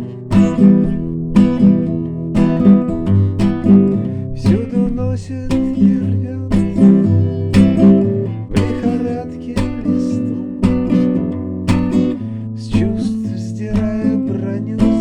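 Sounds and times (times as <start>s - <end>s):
song with strummed acoustic guitar: 0.0s - 15.0s.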